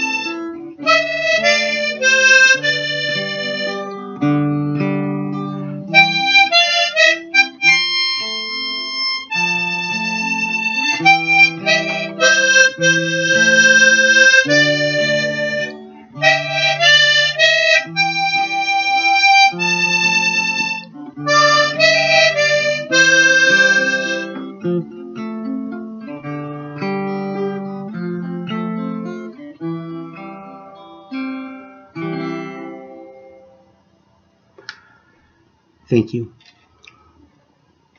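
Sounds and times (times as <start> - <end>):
harmonica melody: 0.0 - 33.5
strummed acoustic guitar: 0.0 - 33.7.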